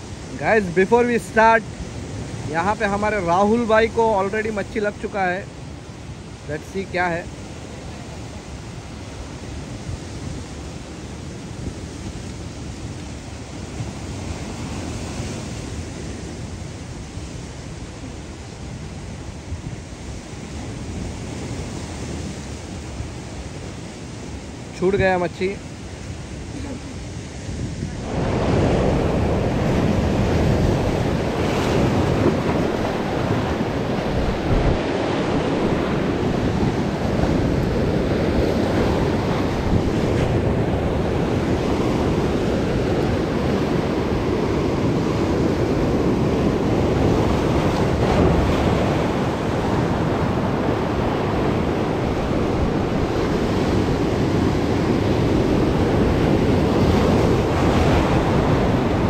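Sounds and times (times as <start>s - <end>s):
sea waves breaking on rocks: 0.0s - 59.0s
wind buffeting microphone: 0.0s - 59.0s.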